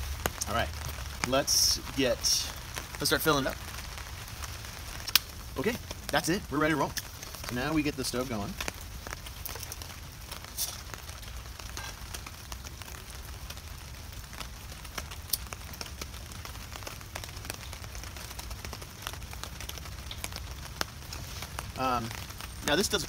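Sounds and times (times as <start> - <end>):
light rain pattering on a tarp: 0.0 - 23.0.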